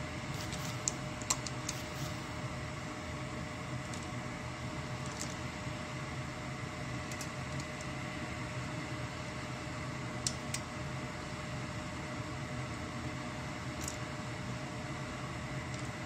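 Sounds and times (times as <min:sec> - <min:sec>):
appliance fan hum: 0:00.0 - 0:16.0.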